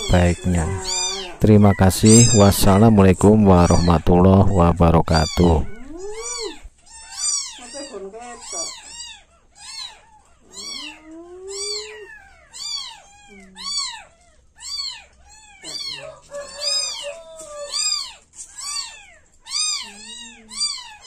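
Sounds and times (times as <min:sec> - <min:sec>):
kittens mewing: 0:00.0 - 0:21.0.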